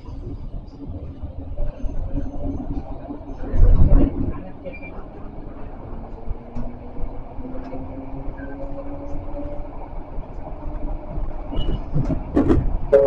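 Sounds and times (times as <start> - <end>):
tram motors whining: 0.0 - 13.0
wheels rumbling on rail: 0.0 - 13.0.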